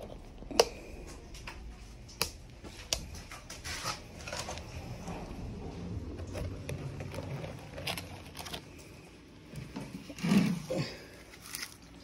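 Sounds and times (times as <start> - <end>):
rustling: 2.0 - 12.0.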